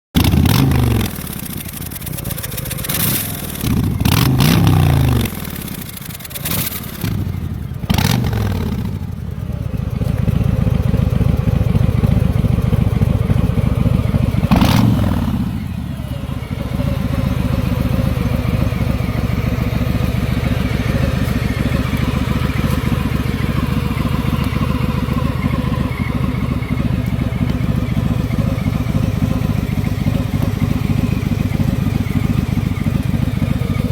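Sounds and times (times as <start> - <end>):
exhaust cracks: 0.2 - 33.9
motorcycle engine revving and idling: 0.2 - 33.9.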